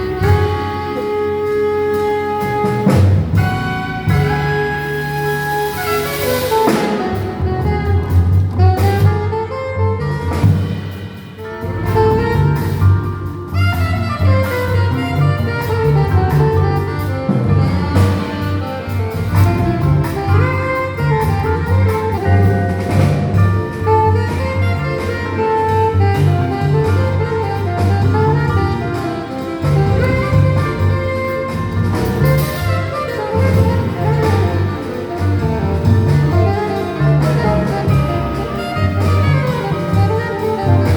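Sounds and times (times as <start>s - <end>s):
bass line: 0.0s - 40.9s
busy melody of quick notes: 0.0s - 40.9s
jazz combo playing: 0.0s - 40.9s.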